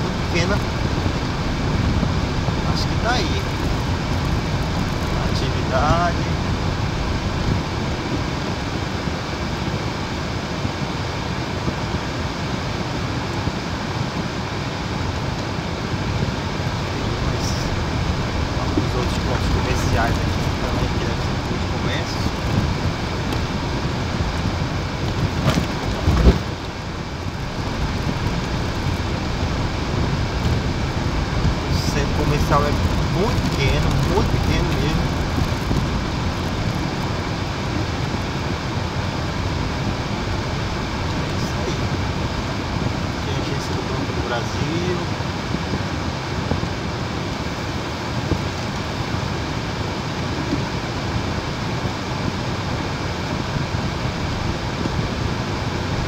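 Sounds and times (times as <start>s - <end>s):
car rumbling over cobblestones: 0.0s - 56.0s.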